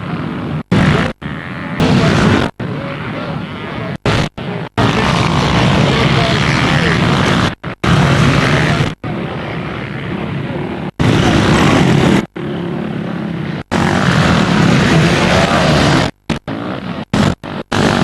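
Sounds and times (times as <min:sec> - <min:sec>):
motorcycle engine running hard: 0:00.0 - 0:18.0
rushing wind: 0:00.0 - 0:18.0.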